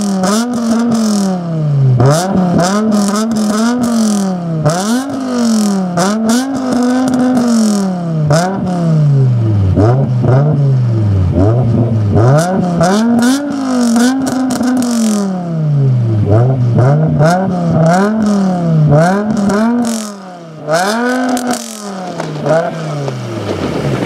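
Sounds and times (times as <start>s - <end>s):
car engine revving: 0.0s - 24.0s
exhaust crackles: 0.0s - 24.0s.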